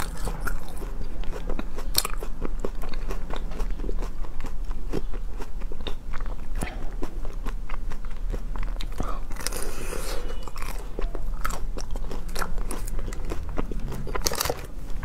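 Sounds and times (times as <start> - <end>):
crunchy chewing of a crispy bar: 0.0 - 15.0.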